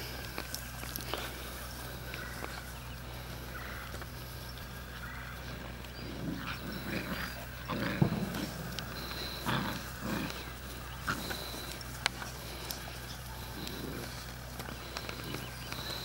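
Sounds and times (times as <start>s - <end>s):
puppies vocalising: 0.0s - 16.0s.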